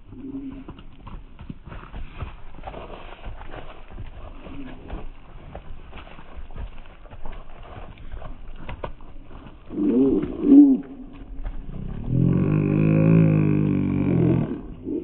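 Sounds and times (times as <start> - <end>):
sheep hooves clopping: 0.0 - 14.7.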